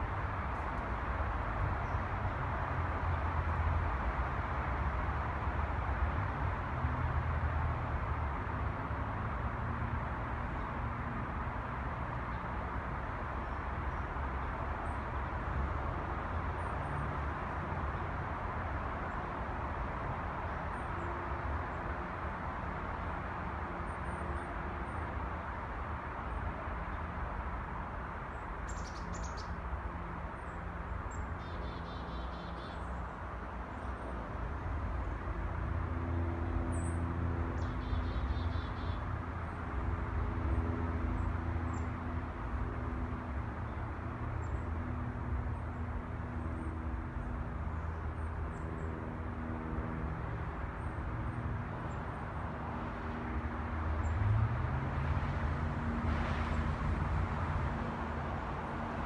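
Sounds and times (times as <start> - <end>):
distant traffic rumble: 0.0 - 59.0.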